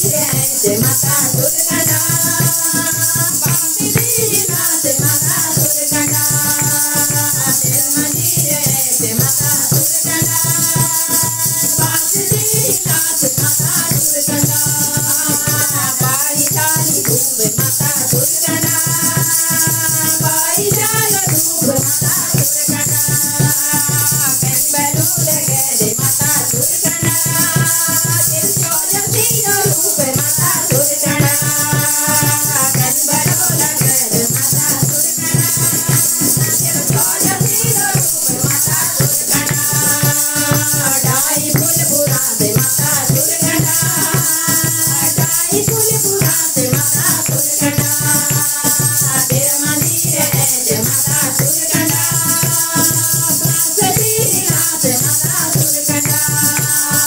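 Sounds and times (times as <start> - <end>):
drum beats: 0.0 - 57.0
hand-clapping: 0.0 - 57.0
women singing devotional song: 0.0 - 57.0.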